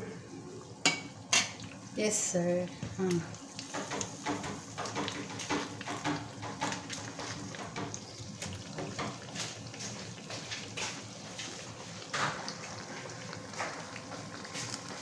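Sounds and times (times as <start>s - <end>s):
food sizzling in hot oil: 0.8s - 15.0s.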